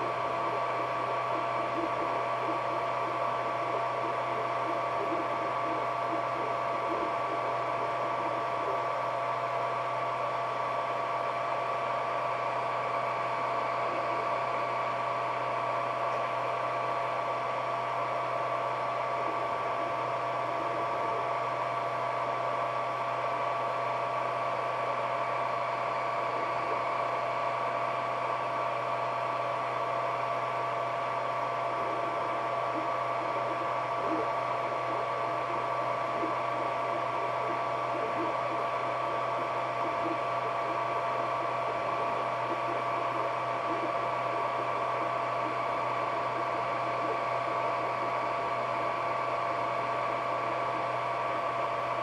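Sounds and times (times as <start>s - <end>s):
faint shifting motor tones: 0.0s - 52.0s
fan whirring: 0.0s - 52.0s
steady whining tones: 0.0s - 52.0s.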